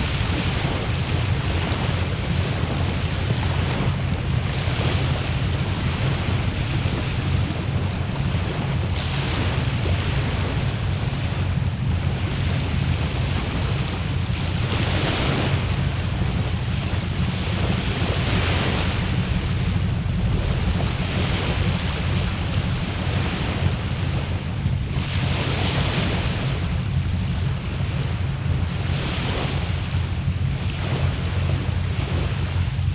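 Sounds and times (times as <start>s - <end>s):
wind rumble on microphone: 0.0s - 32.9s.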